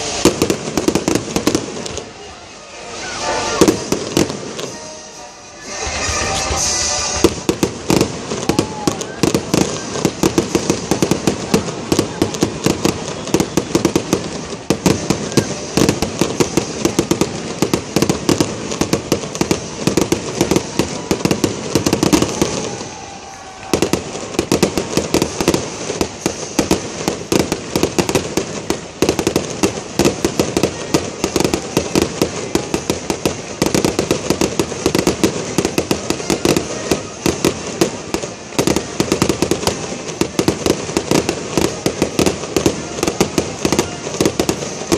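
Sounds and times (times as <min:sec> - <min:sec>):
fireworks bursts and crackling: 0:00.0 - 0:44.9.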